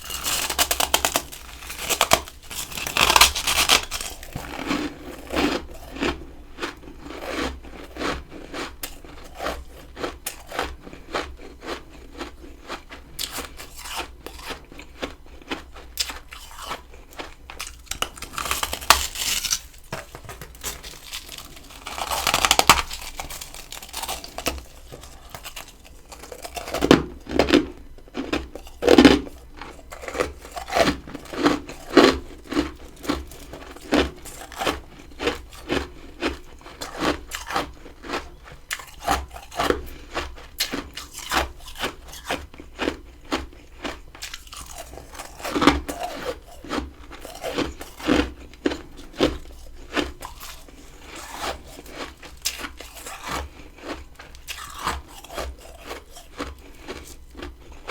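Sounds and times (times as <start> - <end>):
person crunching frost: 0.0 - 57.9.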